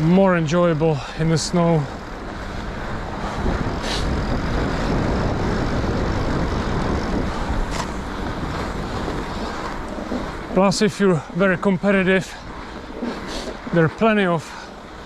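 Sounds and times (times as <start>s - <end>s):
bike tyres rolling over snow: 0.0s - 15.0s.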